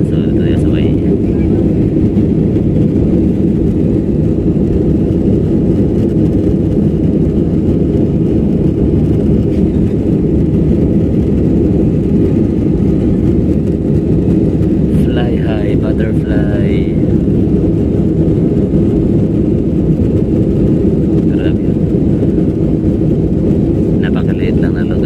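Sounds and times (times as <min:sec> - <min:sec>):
jet engine roar in cabin: 0:00.0 - 0:25.0.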